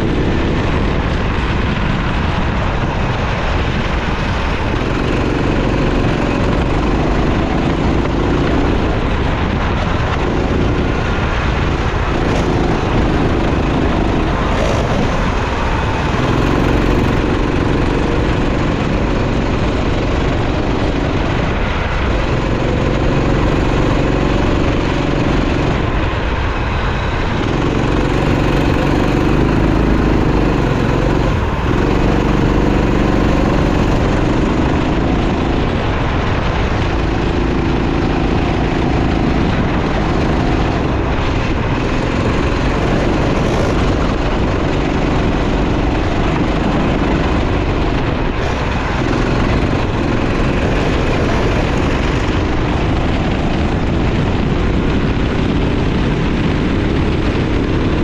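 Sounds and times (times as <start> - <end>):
kart engine racing: 0.0 - 58.0
steady rushing noise: 0.0 - 58.0.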